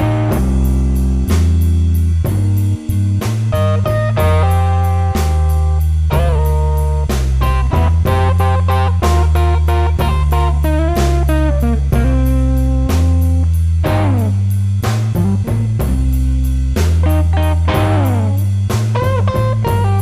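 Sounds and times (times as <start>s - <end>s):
blues guitar music: 0.0s - 20.0s.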